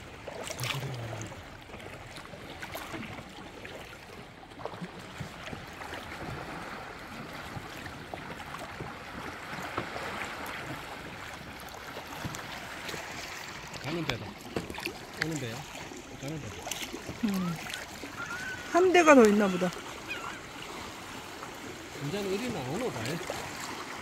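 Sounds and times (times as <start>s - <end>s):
paddle drips and splashes: 0.0s - 24.0s
water sloshing around kayak: 0.0s - 24.0s.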